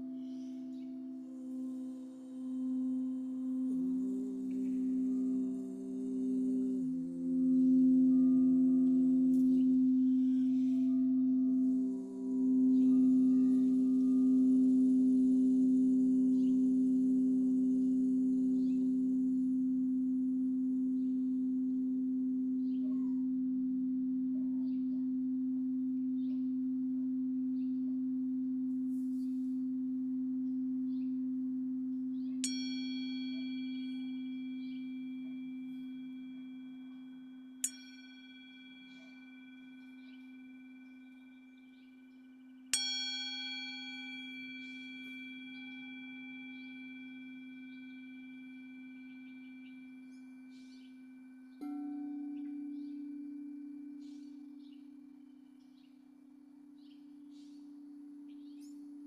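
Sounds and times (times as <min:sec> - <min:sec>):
singing bowl humming: 0:00.0 - 0:59.0.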